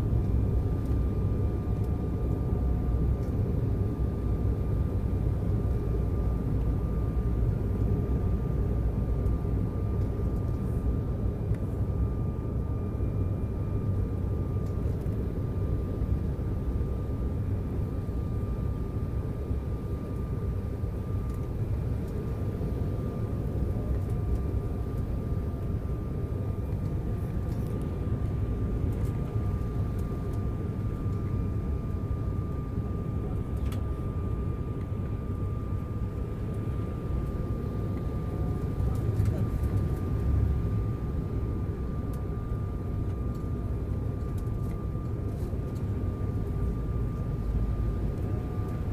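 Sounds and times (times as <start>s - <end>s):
airliner cabin engine rumble: 0.0s - 48.9s
thin steady turbofan whine: 0.0s - 48.9s.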